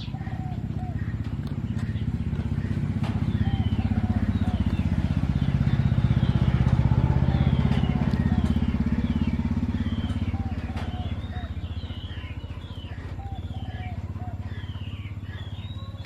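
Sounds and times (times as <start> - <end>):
small engine pulsing: 0.0 - 16.0.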